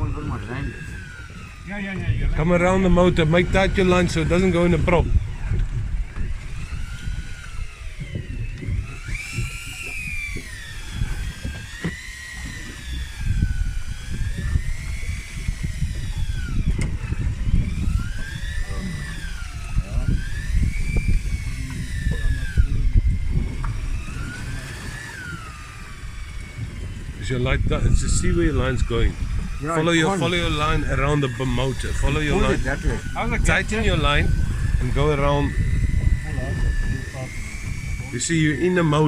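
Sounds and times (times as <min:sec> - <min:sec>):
outboard motor whining: 0:00.0 - 0:39.0
water noise: 0:00.0 - 0:39.0
wind noise: 0:00.0 - 0:39.0.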